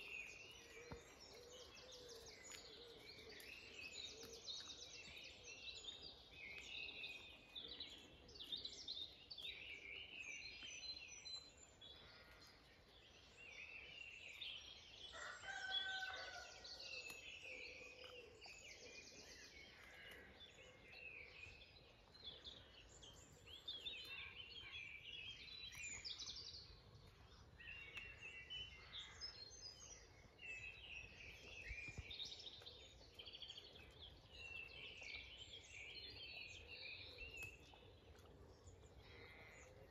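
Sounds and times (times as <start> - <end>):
birds chirping and warbling: 0.0 - 39.9.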